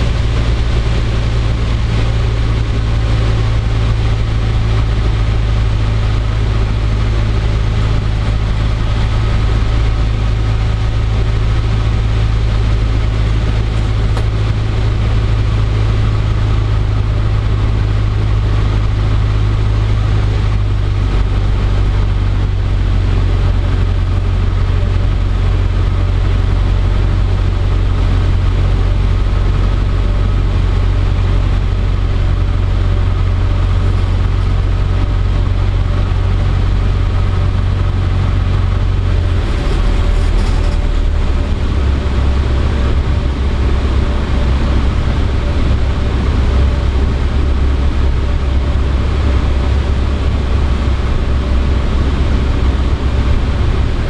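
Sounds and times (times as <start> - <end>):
aircraft engine and propeller droning: 0.0 - 54.0
airflow noise: 0.0 - 54.0.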